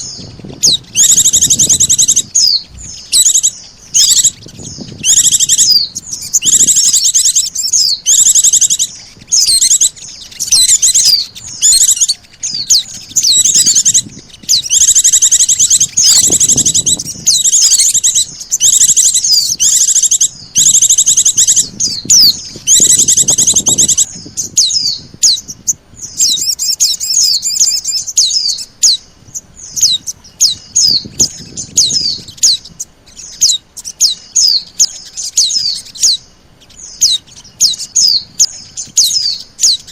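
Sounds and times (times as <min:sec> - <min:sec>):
bird high trills: 0:00.0 - 0:39.9.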